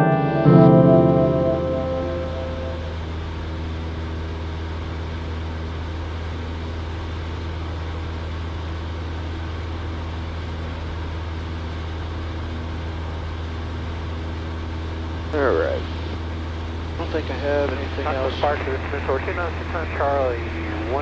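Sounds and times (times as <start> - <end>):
propeller plane engine drone: 0.0 - 21.0.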